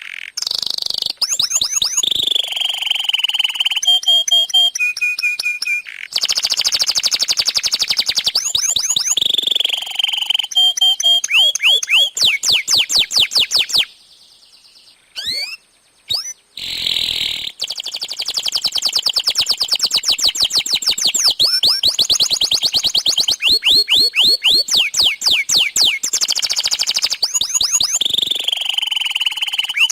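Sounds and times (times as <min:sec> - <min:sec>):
canary singing: 0:00.0 - 0:29.9.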